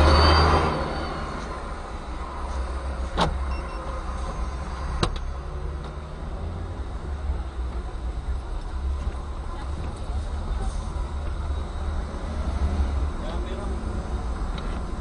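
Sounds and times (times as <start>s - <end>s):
idling road traffic rumble: 0.0s - 15.0s.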